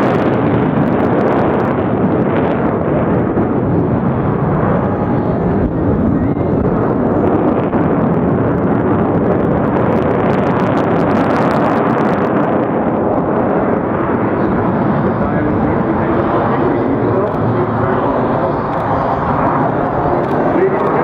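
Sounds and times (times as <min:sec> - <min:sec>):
jet engine crackling: 0:00.0 - 0:21.0
jet engines flying overhead: 0:00.0 - 0:21.0.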